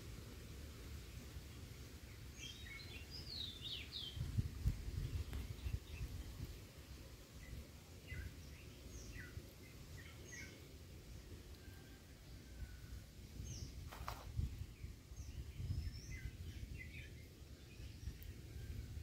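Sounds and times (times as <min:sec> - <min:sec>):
small birds chirping: 0:00.9 - 0:12.0, 0:13.1 - 0:19.0.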